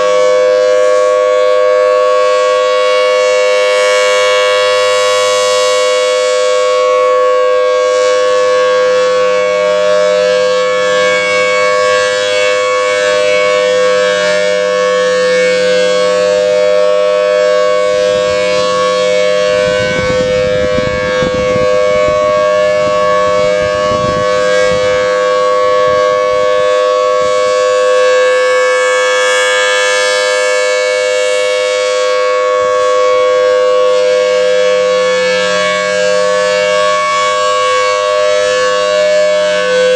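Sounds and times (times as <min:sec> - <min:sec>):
rotating warning siren wailing: 0:00.0 - 0:39.9.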